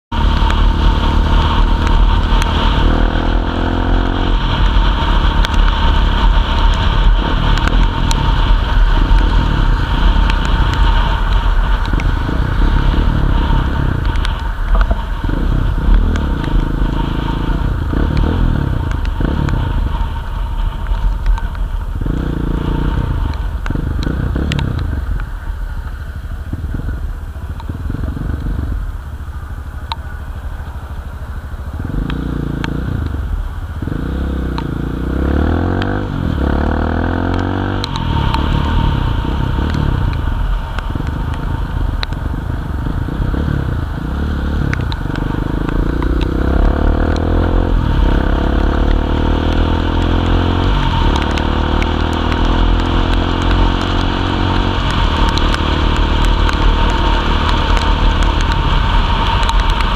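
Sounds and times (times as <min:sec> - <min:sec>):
low wind rumble: 0:00.0 - 0:59.9
motorcycle engine revving: 0:00.0 - 0:59.9
tyres hissing on wet road: 0:00.2 - 0:59.9.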